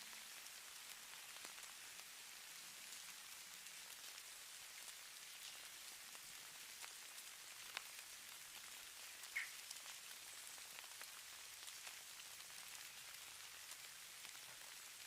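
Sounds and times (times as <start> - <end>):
light precipitation hiss: 0.0 - 15.0.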